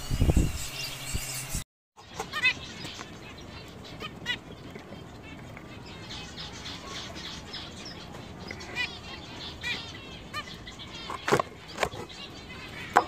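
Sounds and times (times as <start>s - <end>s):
soft chirping of caged finches: 0.1s - 13.0s
finch chirped calls: 2.0s - 13.0s.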